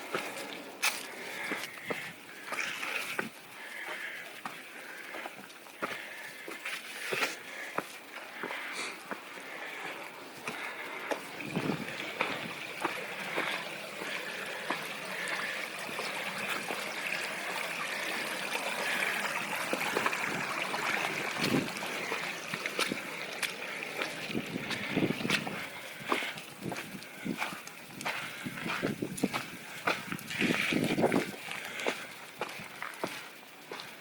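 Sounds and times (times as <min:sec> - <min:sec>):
stream running: 0:00.0 - 0:34.0.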